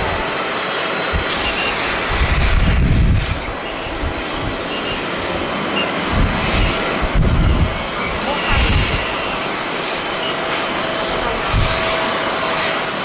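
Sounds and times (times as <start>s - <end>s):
jet airliner engine: 0.0s - 13.0s
wind buffeting microphone: 0.0s - 13.0s.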